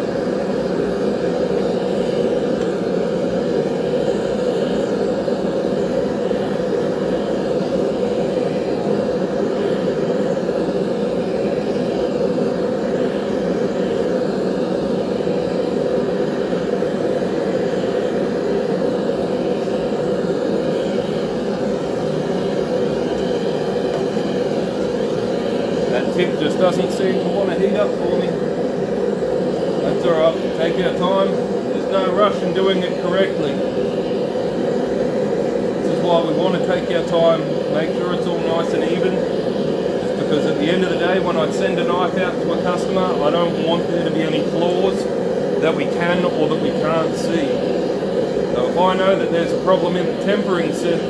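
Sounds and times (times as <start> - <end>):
forge fire rushing: 0.0 - 51.0.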